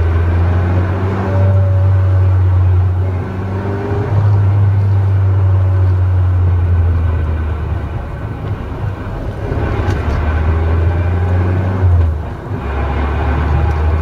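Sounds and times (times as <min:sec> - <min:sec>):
car driving low drone: 0:00.0 - 0:14.0.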